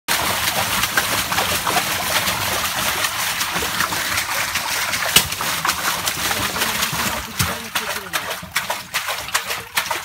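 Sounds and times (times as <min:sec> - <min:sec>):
water splashing in fish tank: 0:00.1 - 0:10.0.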